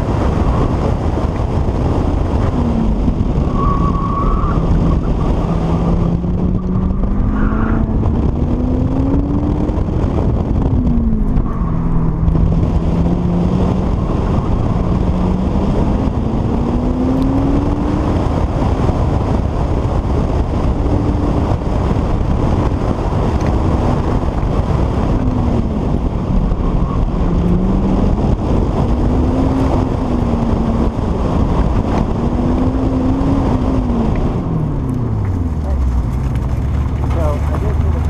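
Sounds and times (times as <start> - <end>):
car engine revving: 0.0 - 38.0
road noise: 0.0 - 38.0
wind noise: 0.0 - 38.0.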